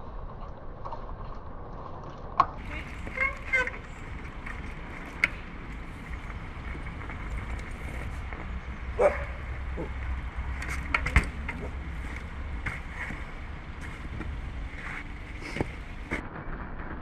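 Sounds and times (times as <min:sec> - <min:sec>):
low wind rumble on microphone: 0:00.0 - 0:17.0
bike clicks and knocks: 0:00.1 - 0:16.3.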